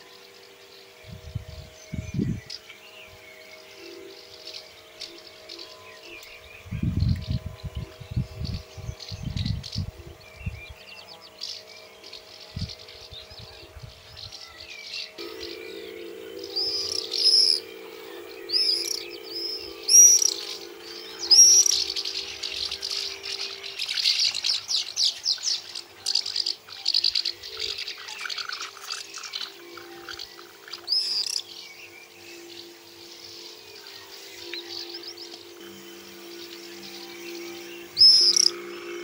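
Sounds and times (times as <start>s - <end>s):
songbirds singing: 0.0s - 39.0s
steady low hum: 0.0s - 39.0s.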